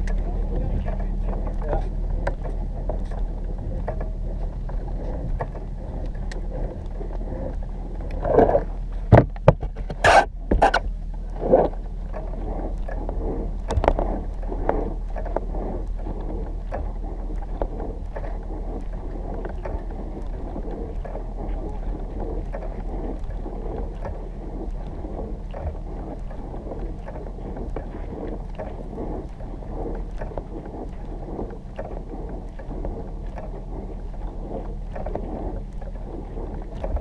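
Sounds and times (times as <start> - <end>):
bumps and scrapes: 0.0 - 37.0
steady low hum: 0.0 - 37.0.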